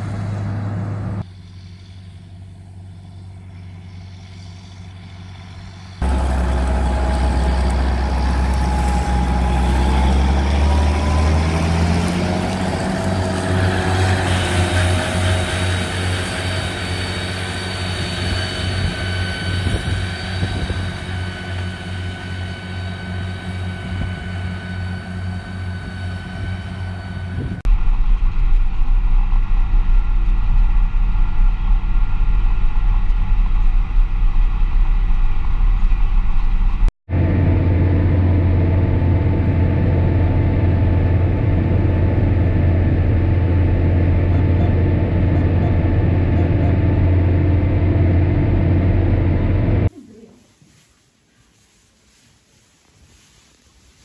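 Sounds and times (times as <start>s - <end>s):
deep tractor engine drone: 0.0s - 49.9s
tractor engine with high whine: 0.0s - 49.9s.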